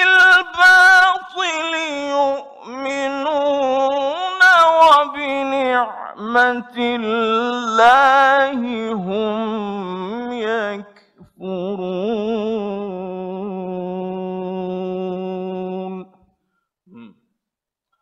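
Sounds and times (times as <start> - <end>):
man chanting melodic recitation: 0.0 - 16.1.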